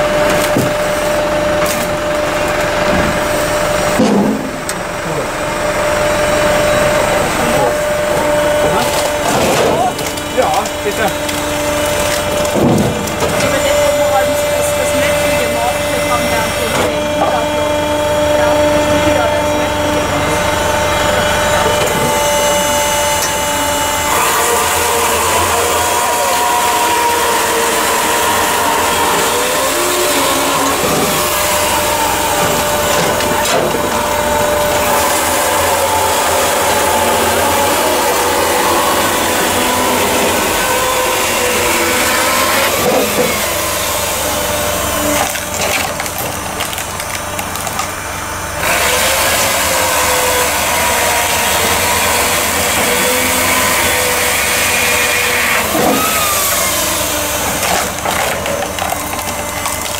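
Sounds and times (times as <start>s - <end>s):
wood cracking and splintering: 0.0s - 5.0s, 7.6s - 59.9s
firewood processor running: 0.0s - 59.9s.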